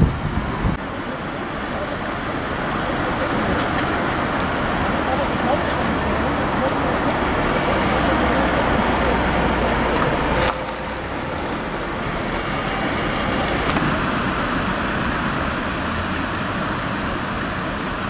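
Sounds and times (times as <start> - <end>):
diesel fire engines idling: 0.0 - 18.0
street noise: 0.0 - 18.0.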